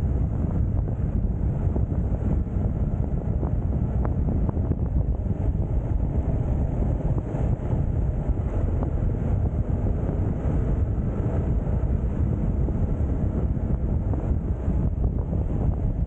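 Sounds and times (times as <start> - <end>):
motorcycle running: 0.0 - 16.0
road noise: 0.0 - 16.0
wind rushing over microphone: 0.0 - 16.0.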